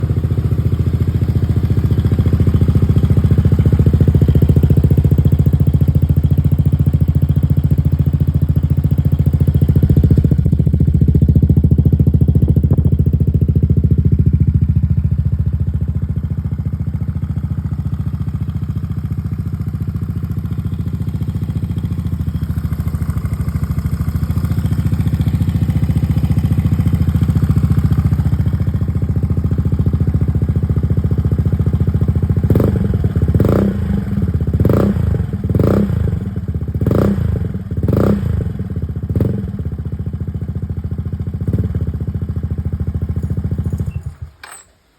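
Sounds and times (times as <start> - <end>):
scooter engine running: 0.0 - 44.6.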